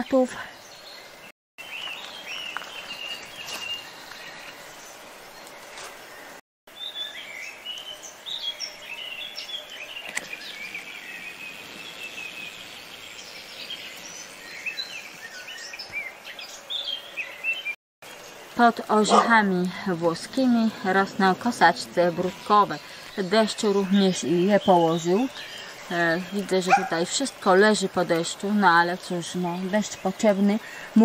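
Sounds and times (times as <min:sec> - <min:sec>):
birds chirping and trilling: 0:00.0 - 0:31.0
outdoor background hiss: 0:00.0 - 0:31.0.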